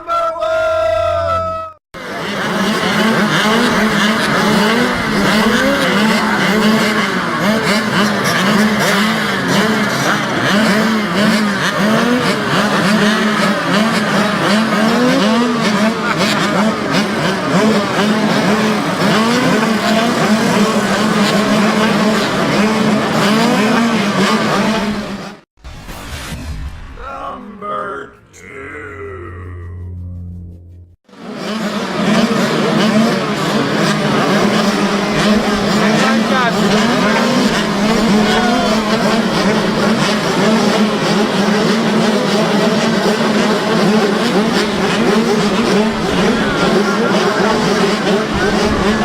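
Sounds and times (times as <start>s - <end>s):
mini motorcycle engines revving: 2.0s - 25.5s, 31.1s - 49.0s.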